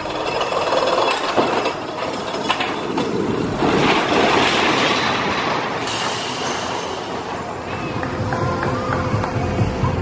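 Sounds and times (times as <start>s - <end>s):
roller coaster wheels rumbling on rail: 0.0s - 10.0s.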